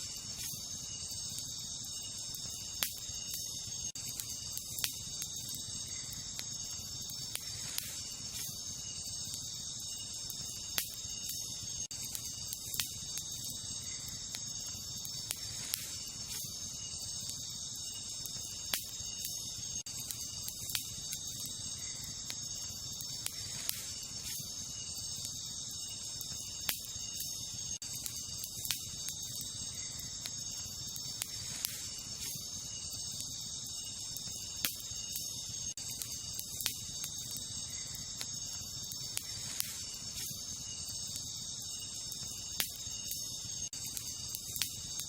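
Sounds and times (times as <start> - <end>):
campfire crackling: 0.0 - 45.0
crickets chirping: 0.0 - 45.0.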